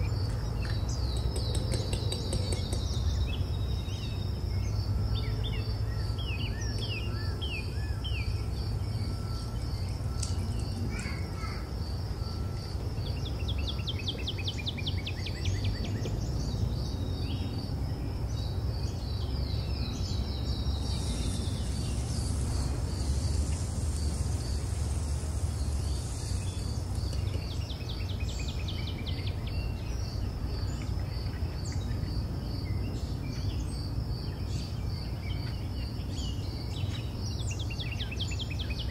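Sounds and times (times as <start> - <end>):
birds chirping and trilling: 0.0 - 38.9
high insect chirp: 0.0 - 38.9.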